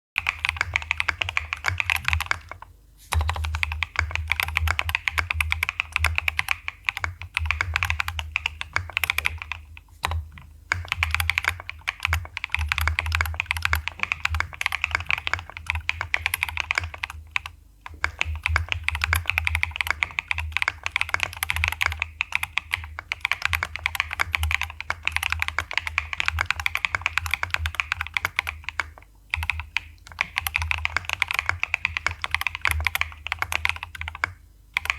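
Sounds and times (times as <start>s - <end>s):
fast typing on mechanical keyboard: 0.2s - 34.9s.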